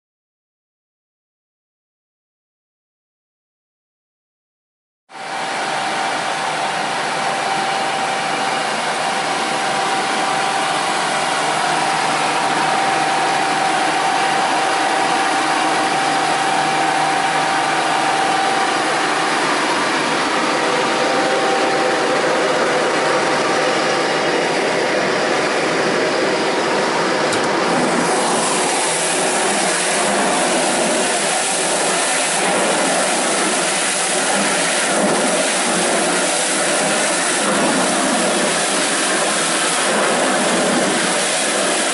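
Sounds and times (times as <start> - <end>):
blender motor drone and whine: 5.1 - 41.9.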